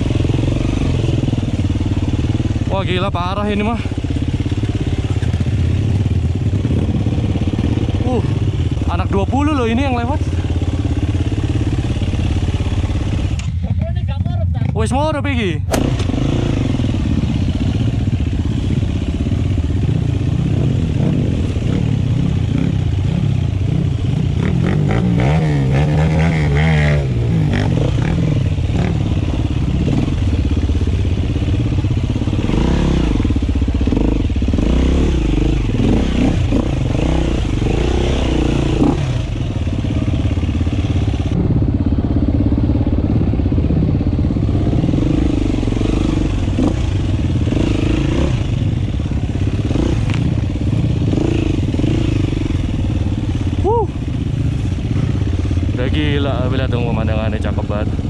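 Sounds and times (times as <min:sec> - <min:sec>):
dirt bike engine revving: 0:00.0 - 0:13.6, 0:15.6 - 0:58.0.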